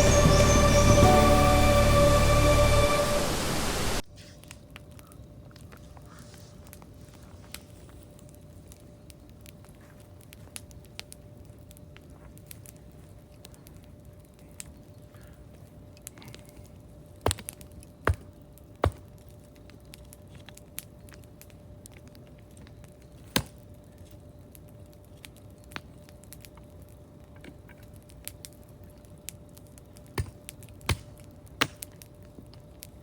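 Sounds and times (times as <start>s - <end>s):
campfire crackling and popping: 4.4s - 33.0s.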